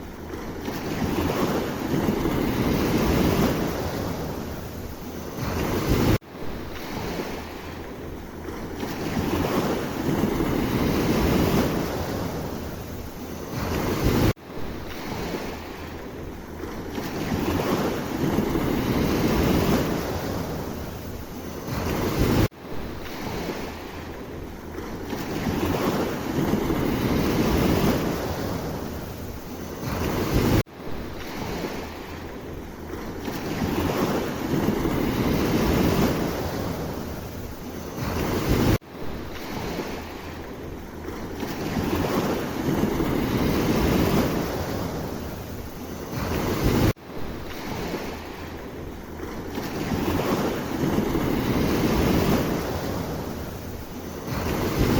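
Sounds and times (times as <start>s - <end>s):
sea waves washing in: 0.0s - 54.9s
wind buffeting microphone: 0.0s - 54.9s.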